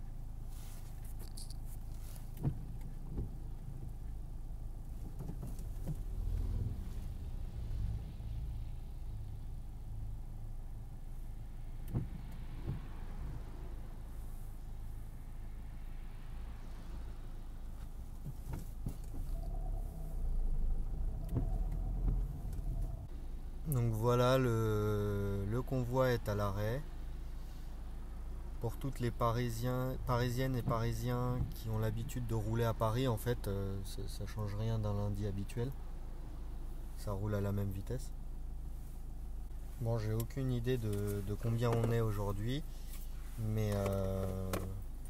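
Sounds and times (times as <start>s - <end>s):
car engine and road hum: 0.0s - 45.0s.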